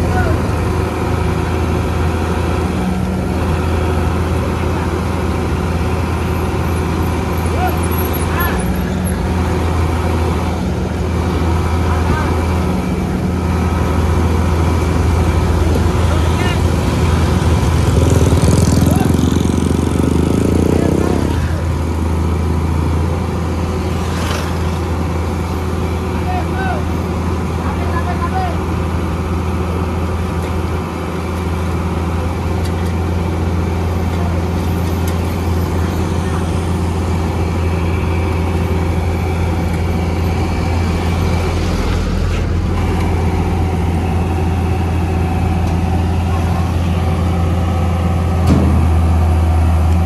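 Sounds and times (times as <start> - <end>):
diesel engine humming: 0.0 - 50.0.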